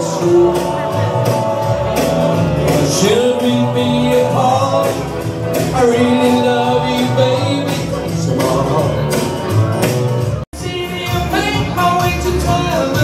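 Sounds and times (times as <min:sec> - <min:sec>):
man singing: 0:00.0 - 0:09.6, 0:10.5 - 0:13.0
rock band playing: 0:00.0 - 0:13.0.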